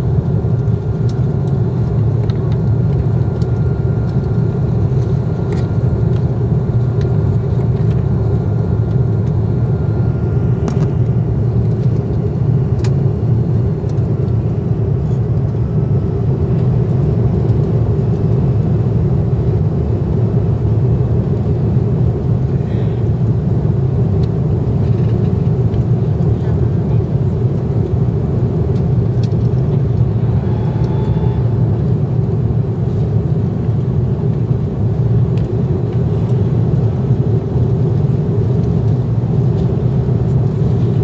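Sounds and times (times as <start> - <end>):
airliner engines and airflow rumble: 0.0 - 41.0.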